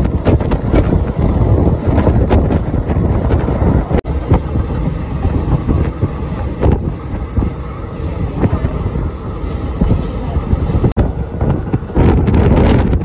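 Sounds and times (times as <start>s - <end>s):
train rumbling: 0.0s - 13.0s
wind rushing over microphone: 0.0s - 13.0s.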